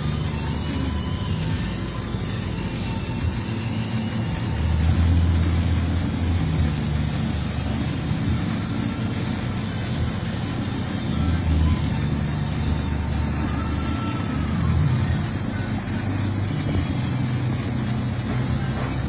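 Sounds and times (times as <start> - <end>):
mixer machine humming: 0.0 - 19.0.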